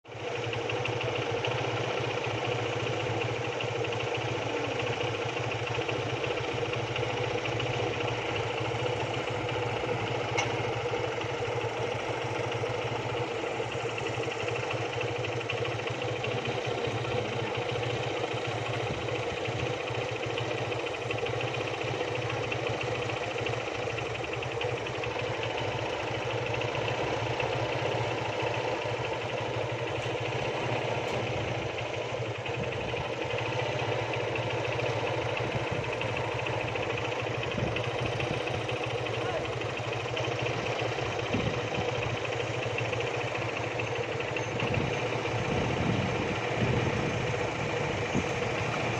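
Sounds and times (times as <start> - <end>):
construction machine engine running: 0.0 - 48.9.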